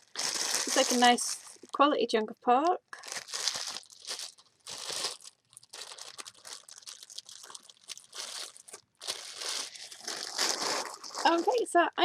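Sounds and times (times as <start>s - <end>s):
food packaging crinkling: 0.0s - 1.8s, 2.9s - 11.6s.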